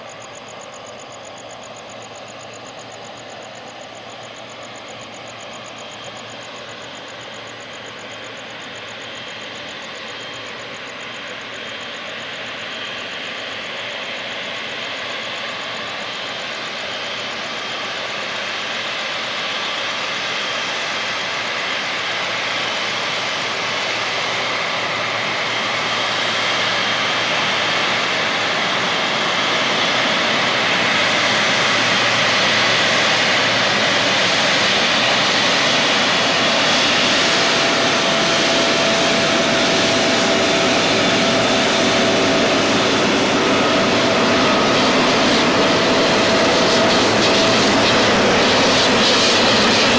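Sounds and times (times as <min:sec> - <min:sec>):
faint steady whine: 0:00.0 - 0:49.9
jet engines rushing: 0:00.0 - 0:49.9.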